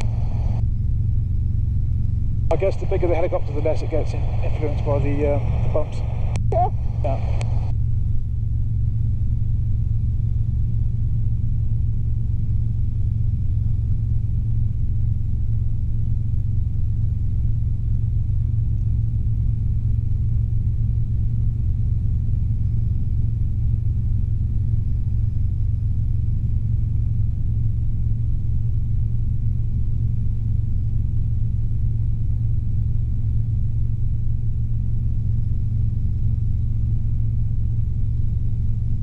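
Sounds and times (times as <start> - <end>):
helicopter engine and rotors droning: 0.0 - 39.0.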